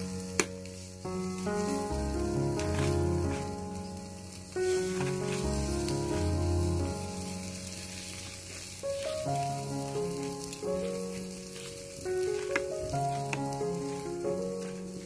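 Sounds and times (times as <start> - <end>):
background music: 0.0 - 15.0
fish sizzling on a grill: 0.0 - 15.0.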